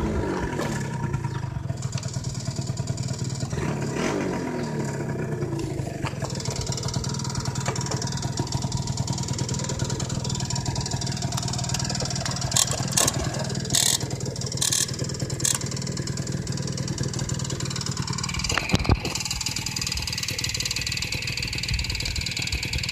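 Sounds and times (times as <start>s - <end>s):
scooter engine idling: 0.0s - 22.9s.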